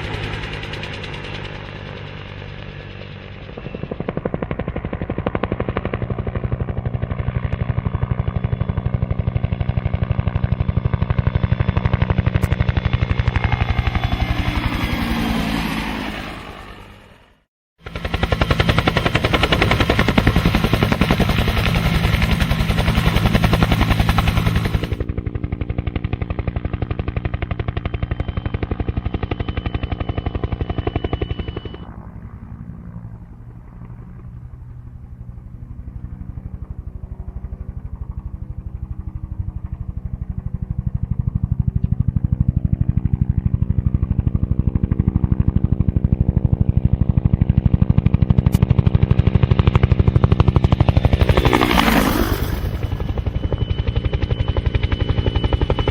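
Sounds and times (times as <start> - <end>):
helicopter rotor chopping: 0.0 - 55.9.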